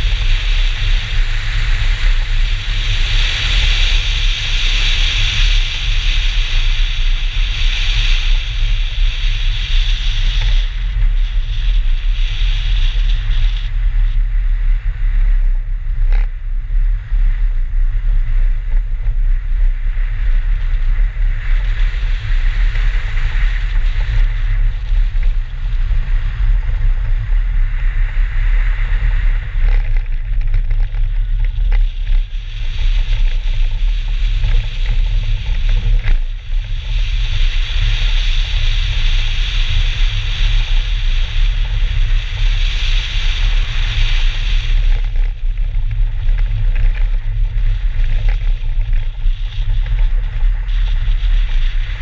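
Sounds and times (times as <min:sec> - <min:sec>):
tyre noise on snow: 0:00.0 - 0:52.0
wind buffeting microphone: 0:00.0 - 0:52.0.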